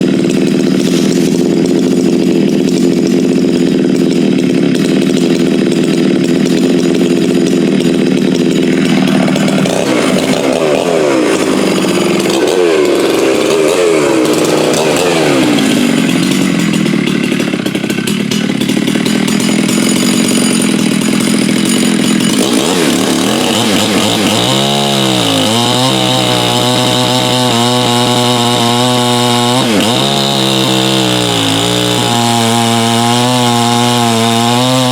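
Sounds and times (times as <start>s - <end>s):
chainsaw running at high revs: 0.0s - 34.9s.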